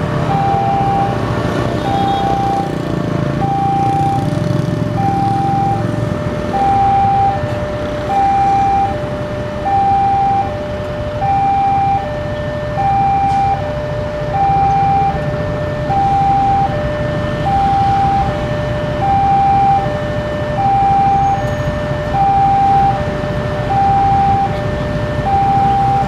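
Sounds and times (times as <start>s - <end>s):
vehicle engines idling: 0.0s - 26.0s
level-crossing two-tone alarm: 0.2s - 26.0s.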